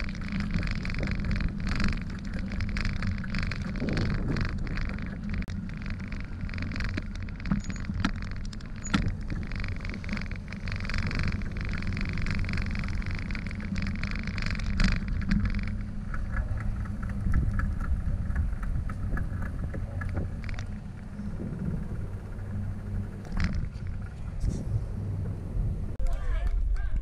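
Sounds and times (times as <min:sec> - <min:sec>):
bicycle freewheel ticking: 0:00.0 - 0:24.1
wind and tyres rumbling: 0:00.0 - 0:27.0.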